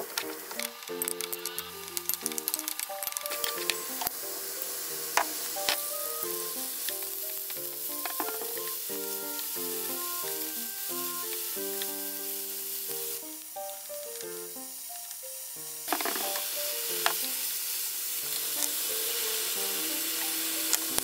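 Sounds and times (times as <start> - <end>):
light plucked background music: 0.0 - 17.5
food sizzling in a frying pan: 0.0 - 21.0.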